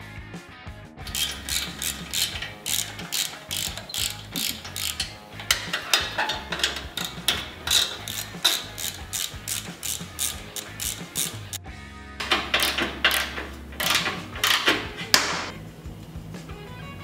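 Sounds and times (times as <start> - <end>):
socket ratchet clicking: 1.1 - 11.6, 12.2 - 15.5.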